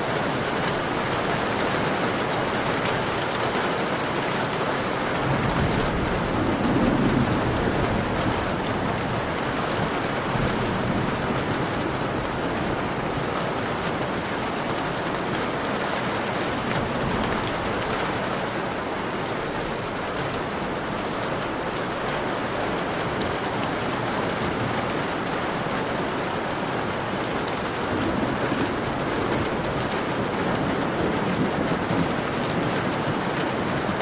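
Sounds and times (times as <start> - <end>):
rain pattering on a window: 0.0 - 34.0.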